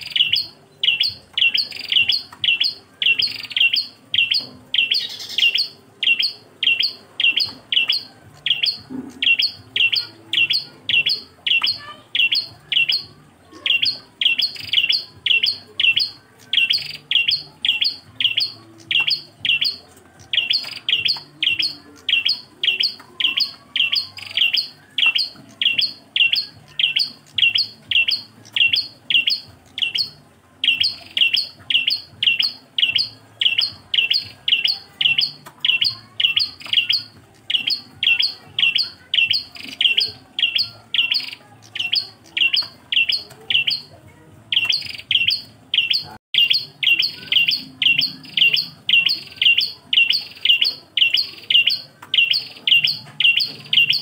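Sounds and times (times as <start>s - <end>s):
bird chirping sharply: 0.0s - 43.9s, 44.5s - 54.0s.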